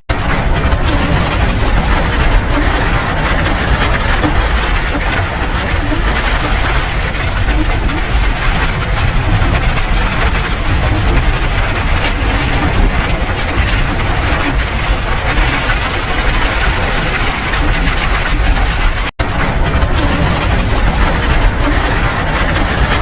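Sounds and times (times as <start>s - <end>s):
low rumble: 0.1s - 23.0s
steady rain: 0.1s - 23.0s.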